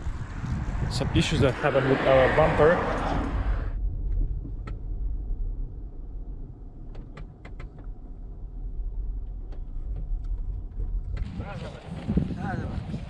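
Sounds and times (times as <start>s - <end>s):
car engine rumbling: 0.0s - 11.6s.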